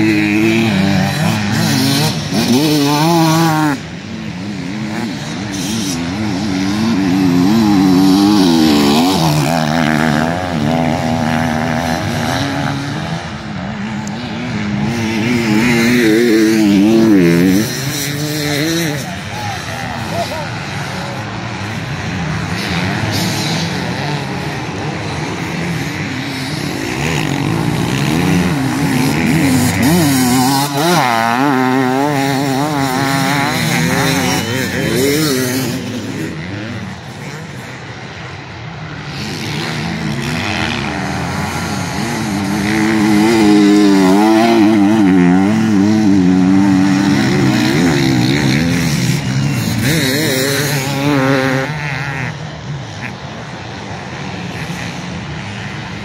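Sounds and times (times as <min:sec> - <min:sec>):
motorcycles revving past: 0:00.0 - 0:56.0.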